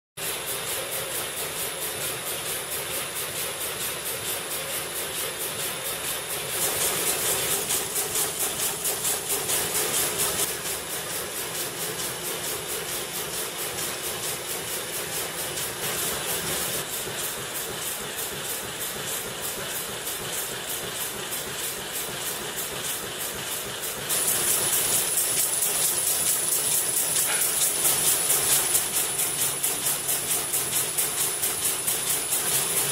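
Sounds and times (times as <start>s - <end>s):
loom clattering: 0.2s - 32.9s.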